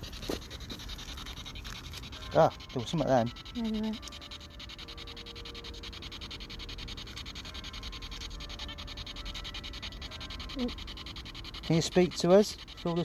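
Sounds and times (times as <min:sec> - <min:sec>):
faint steady tones: 0:00.0 - 0:13.0
fast-pulsing hiss from small speaker: 0:00.0 - 0:13.0.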